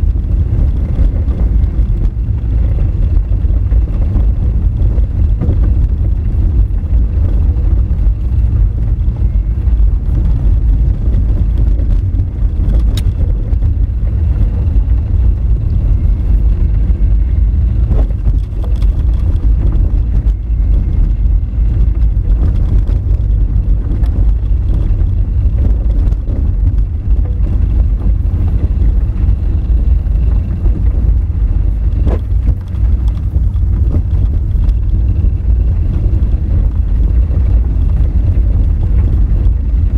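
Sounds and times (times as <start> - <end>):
tyres rumbling on dirt road: 0.0 - 39.9.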